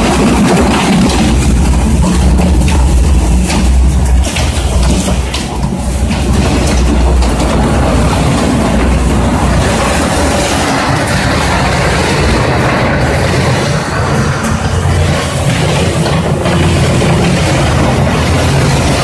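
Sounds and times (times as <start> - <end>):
shredder motor droning: 0.0 - 19.0.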